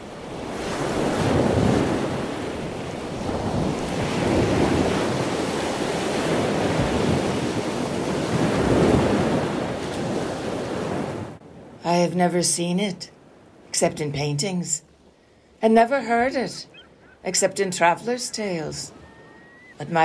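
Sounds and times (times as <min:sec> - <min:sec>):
ocean waves breaking: 0:00.0 - 0:12.3, 0:13.2 - 0:20.0.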